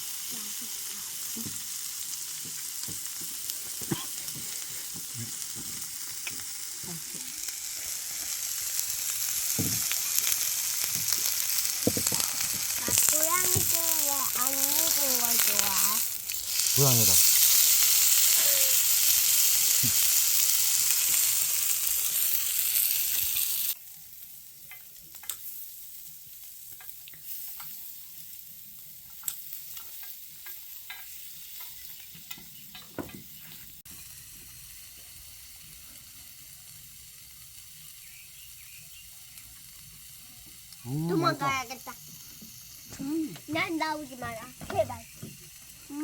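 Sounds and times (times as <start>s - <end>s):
meat sizzling on grill pan: 0.0s - 46.0s.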